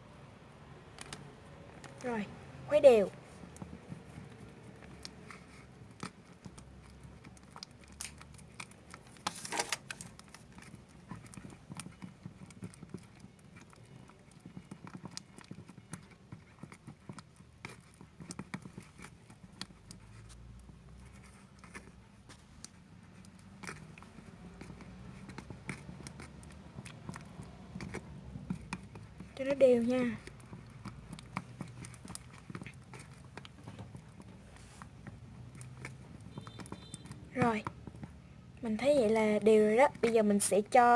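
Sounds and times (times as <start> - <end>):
stirrer scraping container: 1.8 - 40.9
stirrer tapping container sides: 3.1 - 9.4, 10.0 - 22.0, 23.2 - 40.8.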